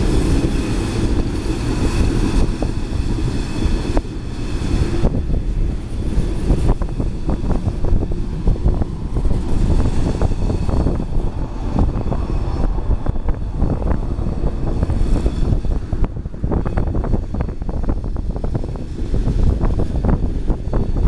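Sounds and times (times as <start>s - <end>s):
freight train rumbling past: 0.0s - 21.0s
wind on microphone: 0.0s - 21.0s.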